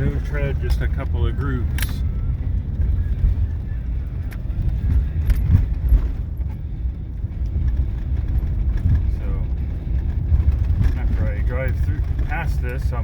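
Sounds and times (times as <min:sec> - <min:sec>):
vehicle rumbling over rough ground: 0:00.0 - 0:13.0.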